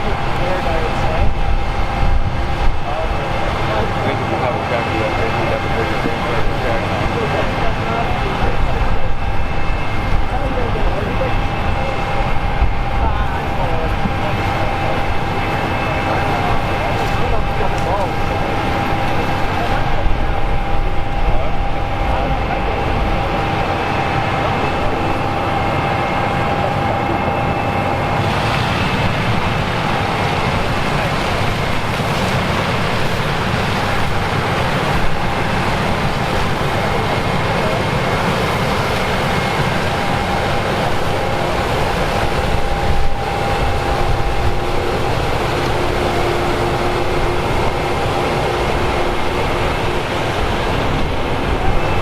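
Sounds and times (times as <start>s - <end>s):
combine harvester engine running: 0.0s - 52.0s
faint machine whines: 0.0s - 52.0s.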